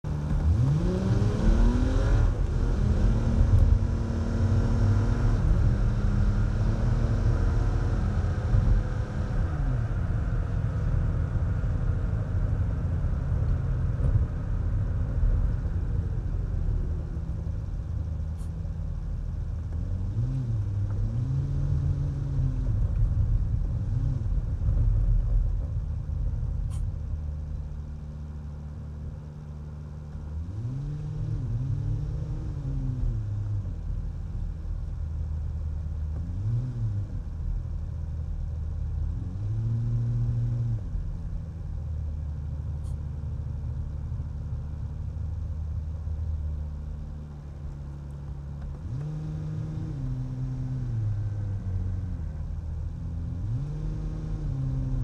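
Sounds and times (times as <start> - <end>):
tyre and road noise: 0.0 - 55.0
car engine accelerating: 0.1 - 55.0.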